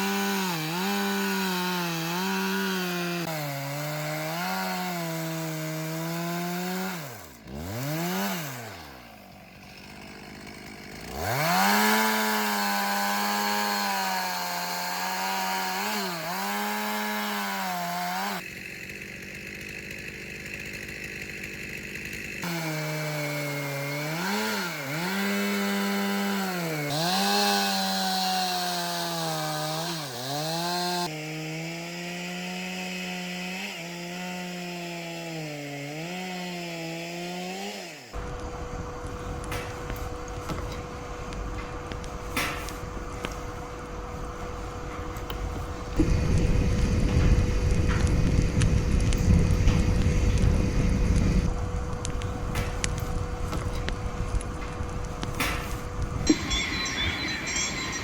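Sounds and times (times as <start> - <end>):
chainsaw running under load: 0.0 - 58.0.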